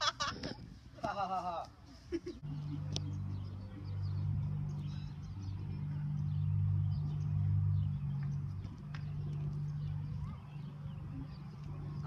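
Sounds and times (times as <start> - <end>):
low steady engine hum: 0.5 - 12.0.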